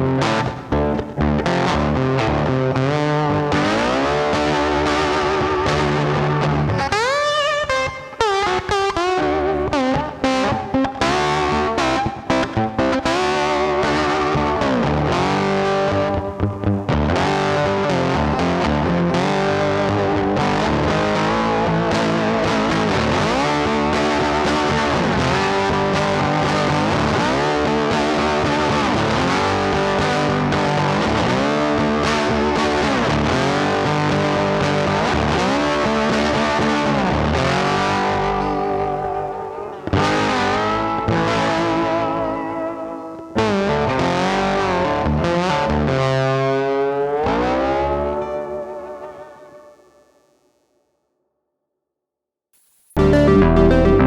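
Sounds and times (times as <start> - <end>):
distorted electric guitar: 0.0 - 50.3, 52.6 - 54.0.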